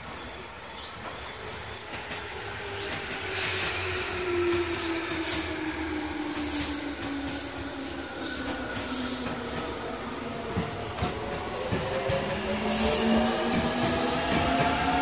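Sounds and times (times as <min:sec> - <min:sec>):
train cars rumbling: 0:00.0 - 0:15.0.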